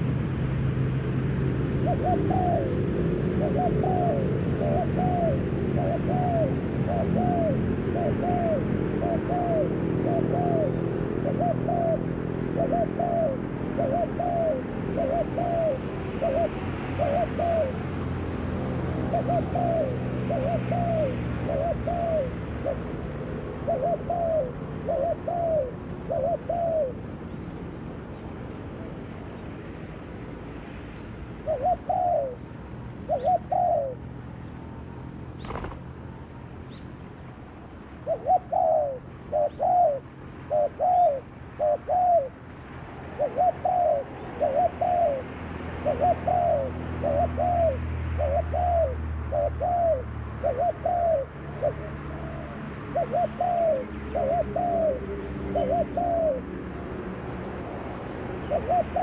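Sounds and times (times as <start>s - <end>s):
dove cooing: 1.6s - 28.2s, 31.2s - 34.6s, 35.4s - 35.8s, 37.9s - 42.4s, 43.0s - 59.0s.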